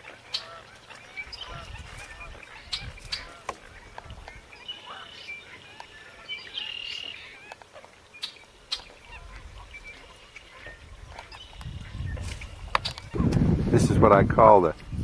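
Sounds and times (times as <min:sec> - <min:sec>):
buzzy bird call: 0:00.0 - 0:13.2
marsh birds chirping and calling: 0:00.0 - 0:15.0.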